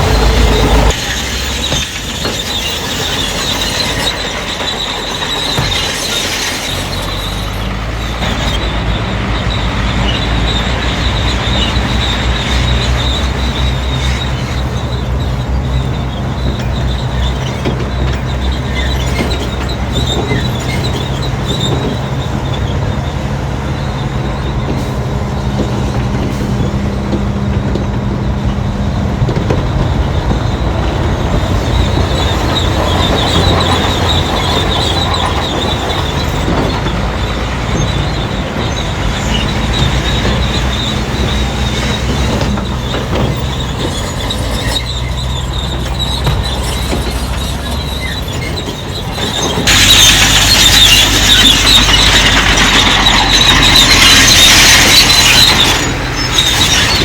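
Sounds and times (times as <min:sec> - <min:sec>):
bulldozer diesel engine: 0:00.0 - 0:57.0
steel tracks squealing and clattering: 0:00.0 - 0:57.0.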